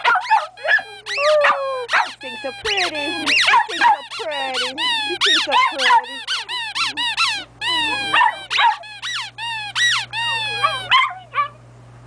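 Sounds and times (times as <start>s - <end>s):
squeaky dog toy squeaking: 0.0s - 11.2s
dog whining howl: 0.0s - 11.6s.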